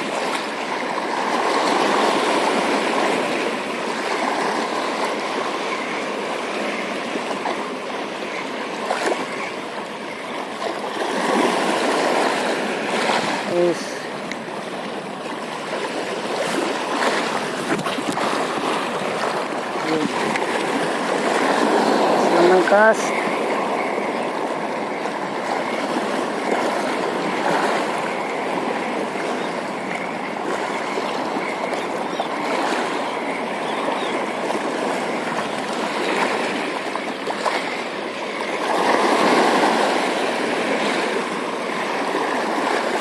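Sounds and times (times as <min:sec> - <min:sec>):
waves lapping and surging: 0:00.0 - 0:43.0.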